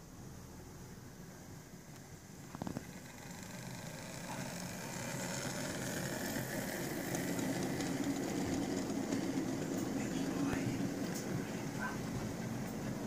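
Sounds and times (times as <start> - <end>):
model train rumbling on track: 2.2 - 13.0.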